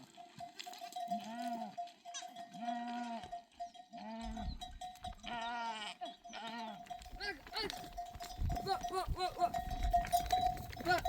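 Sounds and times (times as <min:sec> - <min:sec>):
sheep and goats bleating: 0:00.0 - 0:11.0.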